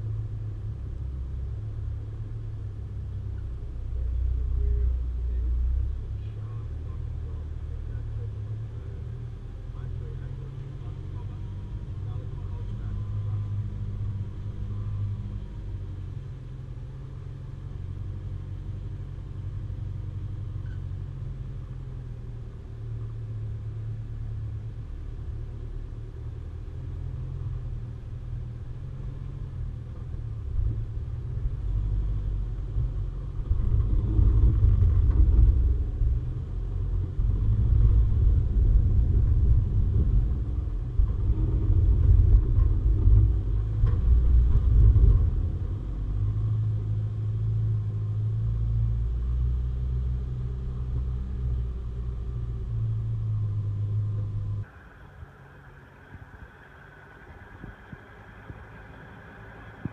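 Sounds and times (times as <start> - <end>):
vehicle rumble: 0.0 - 59.9.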